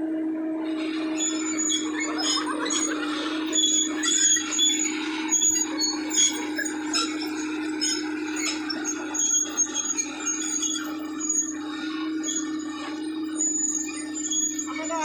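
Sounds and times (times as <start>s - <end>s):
excavator engine humming: 0.0s - 15.0s
metallic squeals and clanks: 0.6s - 15.0s.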